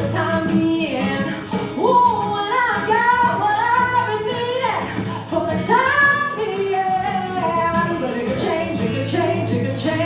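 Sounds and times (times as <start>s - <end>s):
guitar: 0.0s - 10.0s
woman singing: 0.0s - 10.0s.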